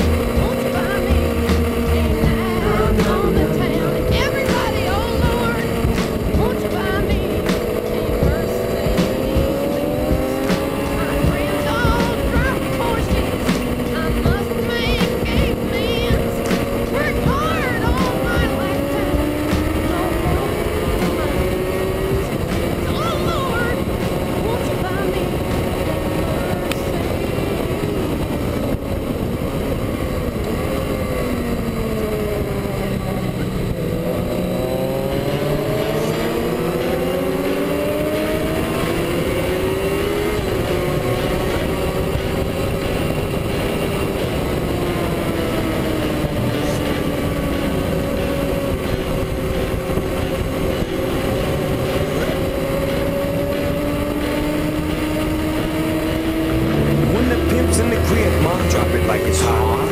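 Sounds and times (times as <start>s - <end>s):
motorcycle engine at speed: 0.0s - 59.9s
wind rushing: 0.0s - 59.9s.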